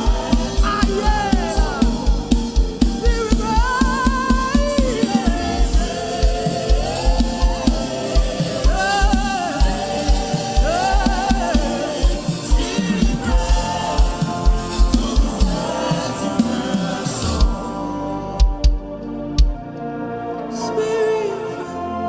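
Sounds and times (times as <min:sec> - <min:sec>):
steady drum beat: 0:00.0 - 0:17.8, 0:18.4 - 0:19.6
gospel singing with backing voices: 0:00.0 - 0:22.0.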